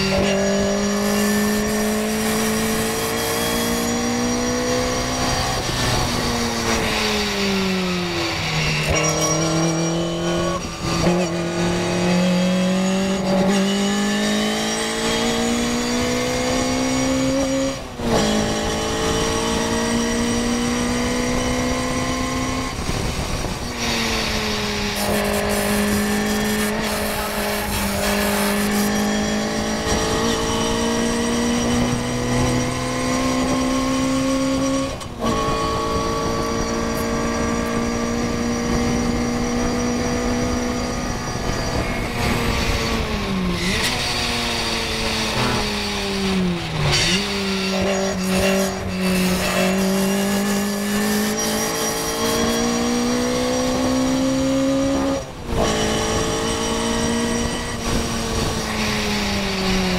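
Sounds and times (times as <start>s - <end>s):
race car engine at high revs: 0.0s - 59.9s
wind noise: 0.0s - 59.9s.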